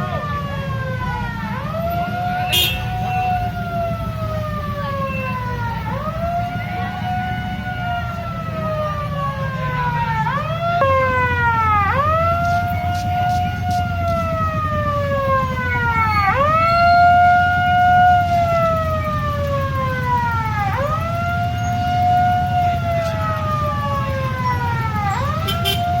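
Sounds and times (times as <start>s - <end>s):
siren wailing: 0.0s - 26.0s.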